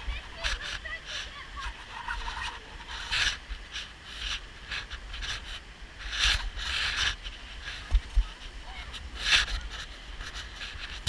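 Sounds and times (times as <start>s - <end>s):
footsteps scraping on wet rocks: 0.0s - 11.0s.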